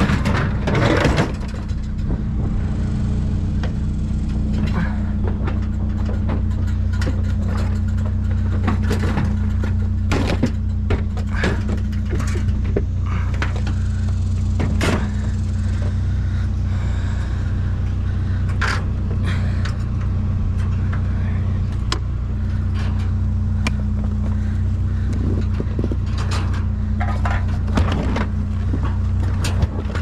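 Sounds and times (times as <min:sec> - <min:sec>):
truck engine humming: 0:00.0 - 0:30.0
sharp clicks and knocks: 0:03.6 - 0:16.0, 0:17.3 - 0:30.0.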